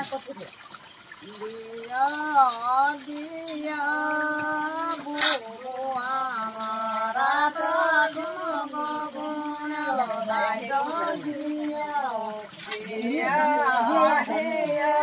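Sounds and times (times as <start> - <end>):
woman singing: 1.2 - 15.0.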